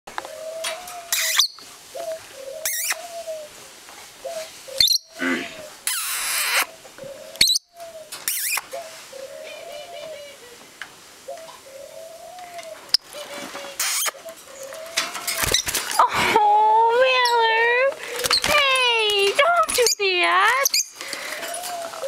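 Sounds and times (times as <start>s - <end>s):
lovebirds screeching and chirping: 0.2s - 3.5s, 4.2s - 10.6s, 11.3s - 16.0s, 16.9s - 22.0s
doves cooing: 0.2s - 22.0s.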